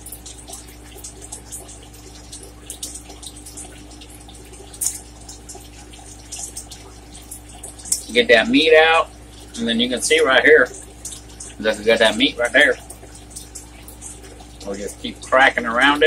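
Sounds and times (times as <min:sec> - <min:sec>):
wet eating sounds: 0:00.0 - 0:16.0.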